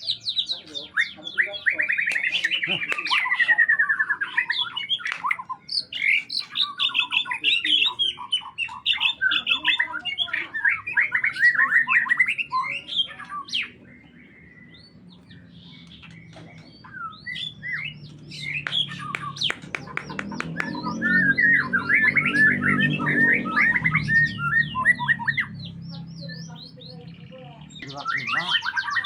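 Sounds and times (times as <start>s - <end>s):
songbird chirping and trilling: 0.0s - 29.0s.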